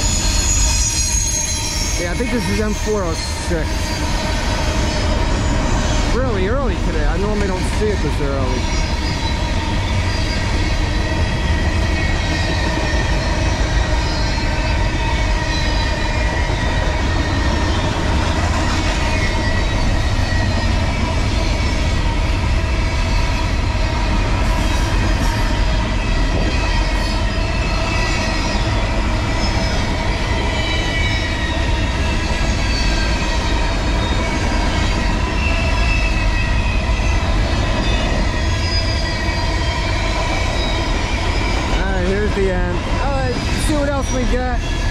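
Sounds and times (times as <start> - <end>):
train wheels rumbling on rail: 0.0 - 44.9
wheels squealing: 0.0 - 44.9.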